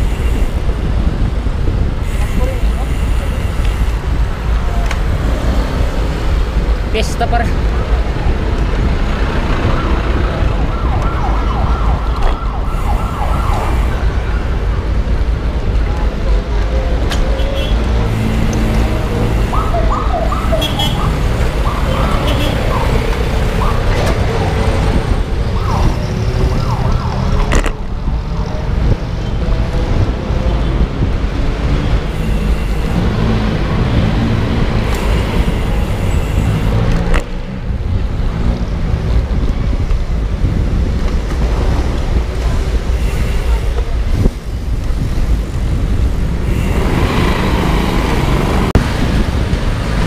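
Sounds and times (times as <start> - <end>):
city street traffic rumble: 0.0 - 50.0.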